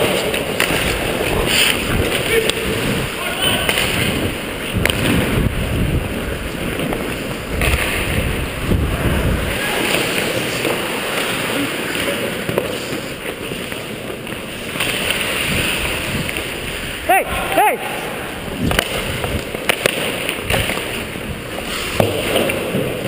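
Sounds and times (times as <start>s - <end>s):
ice skates scraping on ice: 0.0s - 17.1s, 18.0s - 23.0s.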